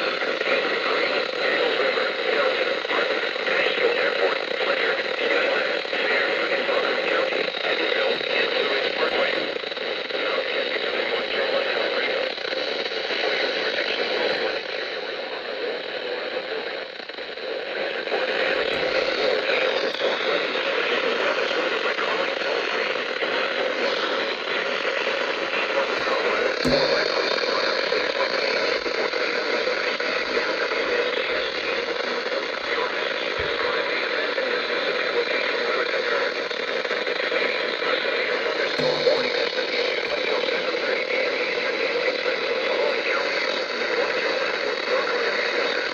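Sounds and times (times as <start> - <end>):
radio static hiss: 0.0 - 45.9.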